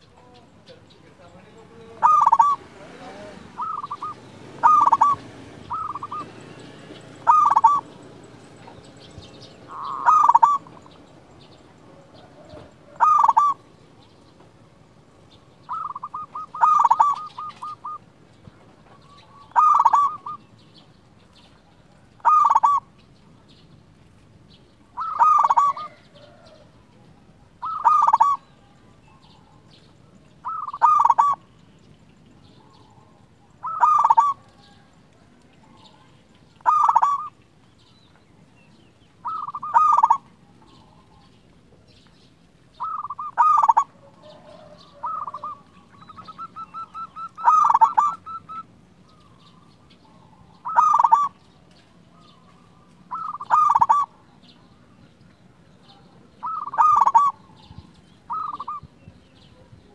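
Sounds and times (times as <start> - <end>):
dove cooing: 0.0 - 20.6, 21.4 - 23.1, 24.9 - 31.5, 32.6 - 37.4, 39.2 - 41.3, 42.8 - 54.6, 55.9 - 59.9.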